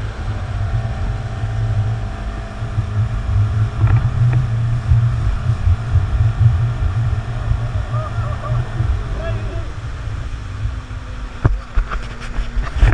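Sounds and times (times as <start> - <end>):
boat engine running: 0.0 - 12.9
wind buffeting microphone: 0.0 - 12.9.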